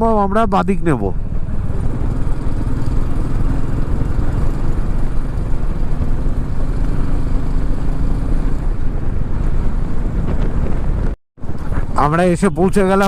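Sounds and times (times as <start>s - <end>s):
motorcycle engine drone: 0.0s - 12.6s
wind rumble on microphone: 1.2s - 12.8s.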